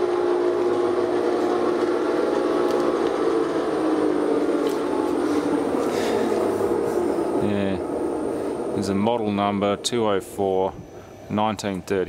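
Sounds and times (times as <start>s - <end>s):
lathe motor whine: 0.0s - 12.0s.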